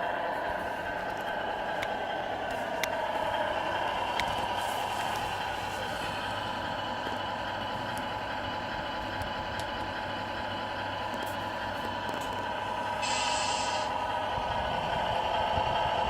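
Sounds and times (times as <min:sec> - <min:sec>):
model truck motor humming: 0:00.0 - 0:16.0.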